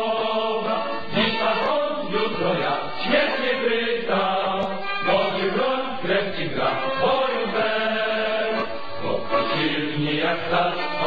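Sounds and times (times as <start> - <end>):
choral singing: 0.0 - 11.0.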